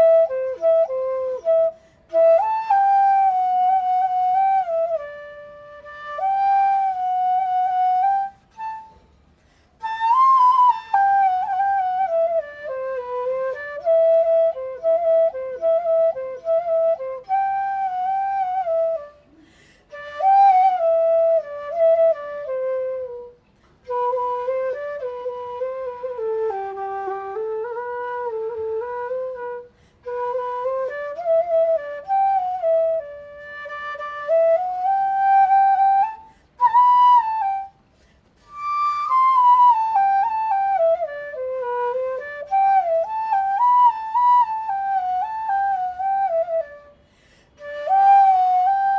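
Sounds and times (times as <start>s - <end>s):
solo flute melody: 0.0s - 48.9s.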